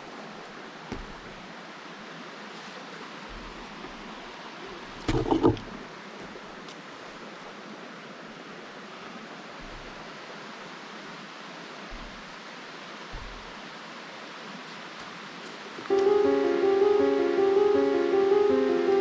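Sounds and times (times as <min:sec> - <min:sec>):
woodland creek rushing: 0:00.0 - 0:15.9.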